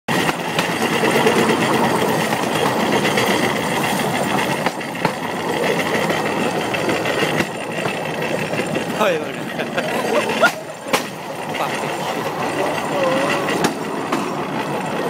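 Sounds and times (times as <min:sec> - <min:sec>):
rail cart rattling on rails: 0:00.1 - 0:15.0.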